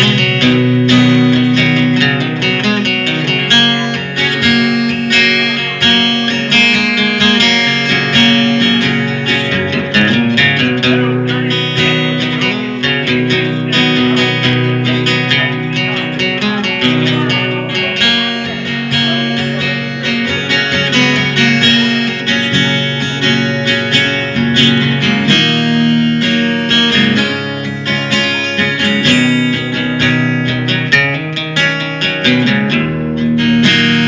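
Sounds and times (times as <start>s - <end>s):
acoustic guitar through speakers: 0.0s - 34.0s.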